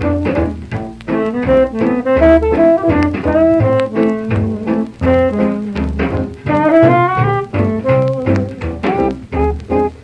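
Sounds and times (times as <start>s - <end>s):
swing band playing: 0.0s - 10.0s.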